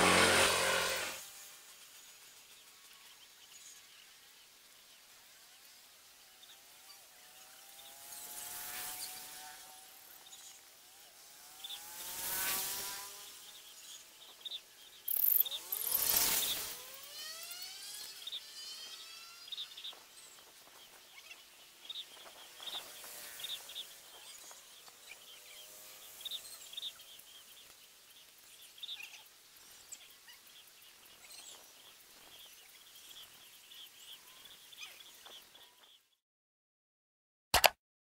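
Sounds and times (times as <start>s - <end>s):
small birds chirping: 0.0s - 36.2s.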